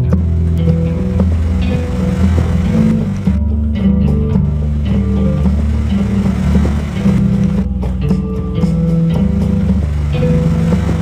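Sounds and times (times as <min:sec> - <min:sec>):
low held bass notes: 0:00.0 - 0:11.0
plucked guitar: 0:00.0 - 0:11.0.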